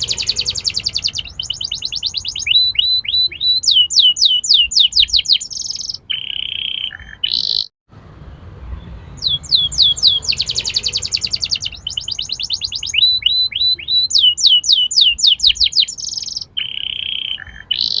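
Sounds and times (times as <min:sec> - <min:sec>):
canary singing: 0:00.0 - 0:07.7, 0:08.4 - 0:18.0.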